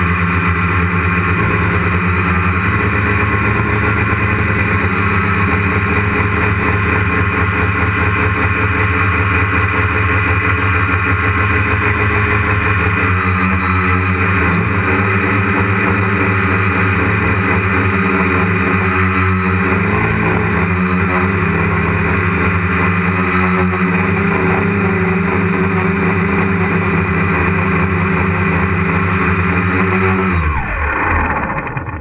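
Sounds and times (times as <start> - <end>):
quadcopter motors and propellers: 0.0 - 32.0.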